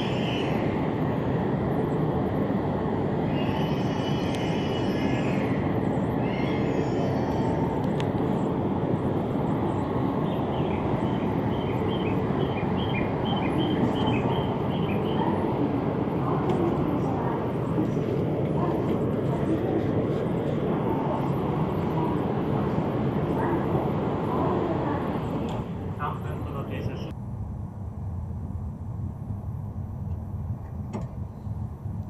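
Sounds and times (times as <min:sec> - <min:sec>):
train fans humming: 0:00.0 - 0:32.0.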